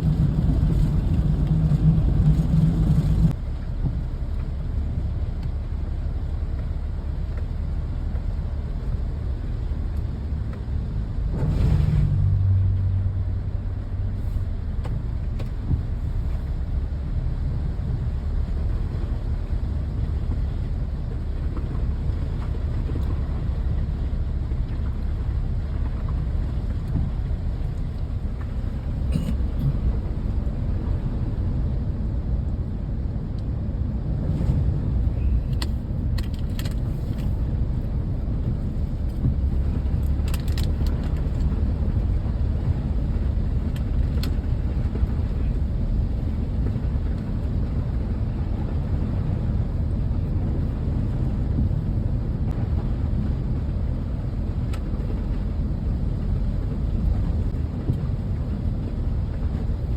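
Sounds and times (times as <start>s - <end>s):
low rainy outdoor rumble: 0.0s - 59.9s.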